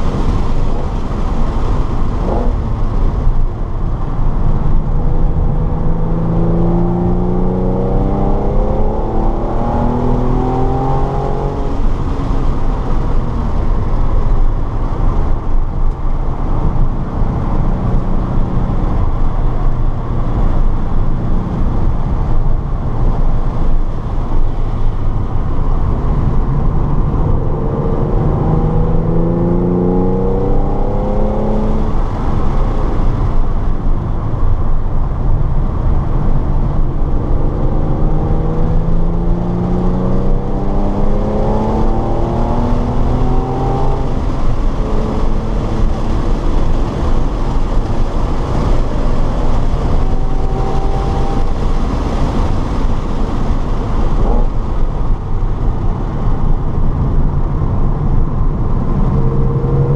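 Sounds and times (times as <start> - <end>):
car engine accelerating: 0.0 - 59.9
loud wind noise: 0.0 - 59.9
road noise: 0.0 - 59.9.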